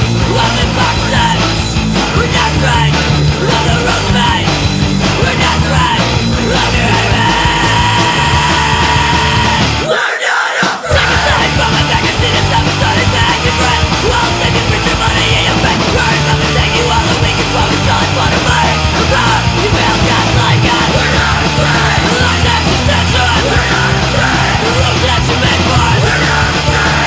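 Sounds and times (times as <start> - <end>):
punk rock band playing: 0.0 - 27.0
shouted vocals: 5.1 - 27.0.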